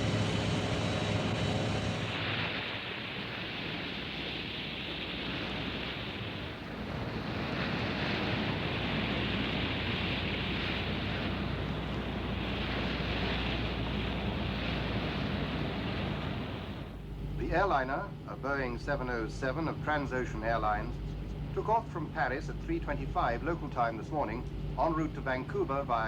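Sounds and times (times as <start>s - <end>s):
low steady drone: 0.0s - 4.2s, 6.5s - 26.0s
sea washing: 0.0s - 26.0s
wind: 0.0s - 26.0s.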